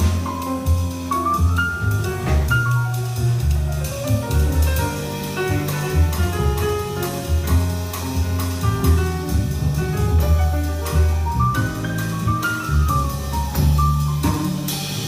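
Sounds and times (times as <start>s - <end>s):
double bass low notes: 0.0s - 15.0s
piano notes: 0.0s - 15.0s.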